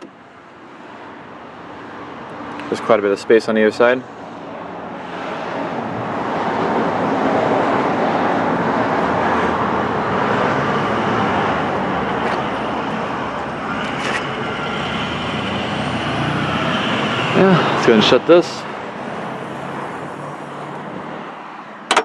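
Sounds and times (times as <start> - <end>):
road traffic rushing: 0.0 - 22.0.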